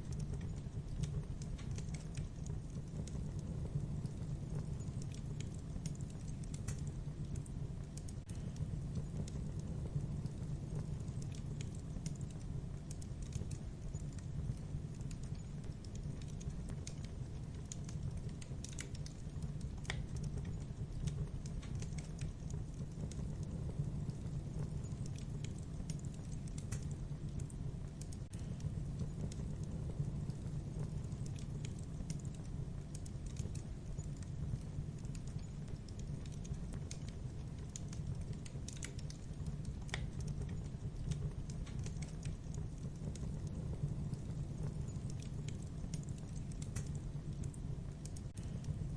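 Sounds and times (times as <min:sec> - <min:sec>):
low rumble of flames: 0:00.0 - 0:48.9
wood fire crackling: 0:00.0 - 0:48.9.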